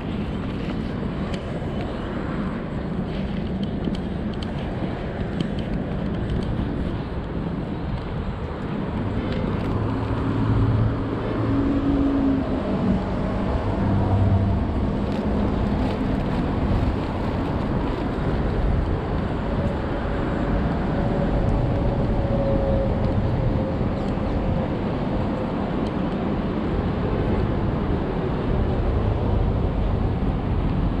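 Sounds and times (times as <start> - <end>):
engine hum: 0.0 - 31.0
passing cars rumble: 0.0 - 31.0.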